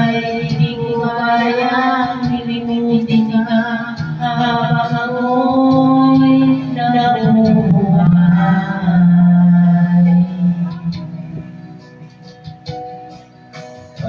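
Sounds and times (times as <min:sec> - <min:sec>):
woman singing karaoke: 0:00.0 - 0:13.2
backing track music: 0:00.0 - 0:14.0.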